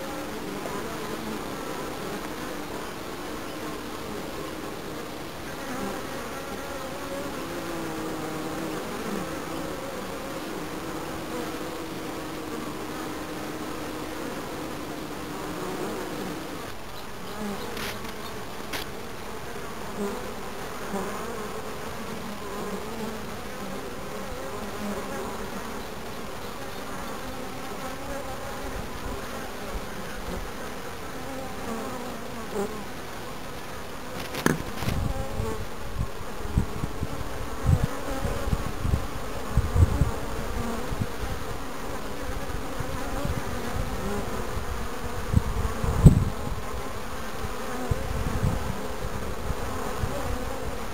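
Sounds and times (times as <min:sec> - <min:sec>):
honeybees buzzing: 0:00.0 - 0:50.9.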